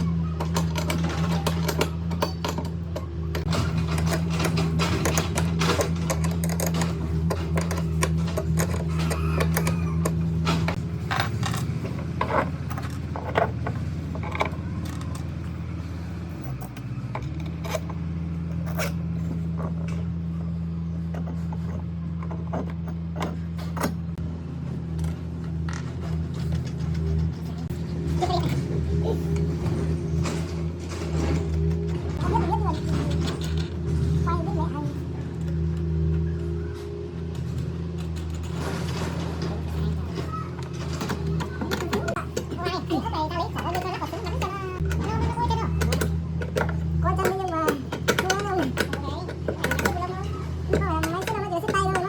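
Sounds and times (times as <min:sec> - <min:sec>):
clicks and knocks of tools and wood: 0:00.0 - 0:52.0
steady low motor hum: 0:00.0 - 0:52.0.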